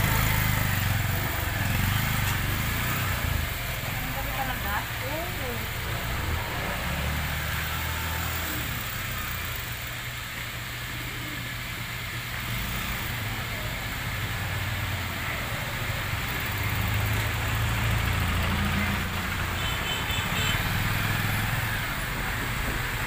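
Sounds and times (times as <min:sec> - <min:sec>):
small motorcycle engine: 0:00.0 - 0:23.0.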